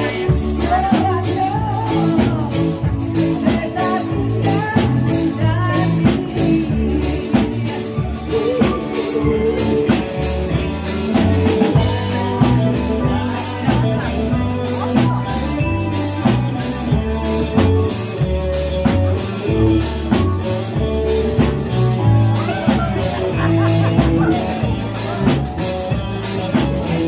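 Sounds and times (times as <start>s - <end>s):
drum kit beat: 0.0s - 27.0s
live band playing dance music: 0.0s - 27.0s
person singing: 0.0s - 27.0s.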